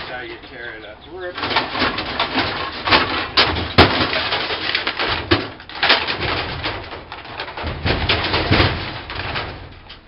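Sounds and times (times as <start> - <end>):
tearing and banging: 1.3 - 10.0
sharp knocks: 1.4 - 9.7.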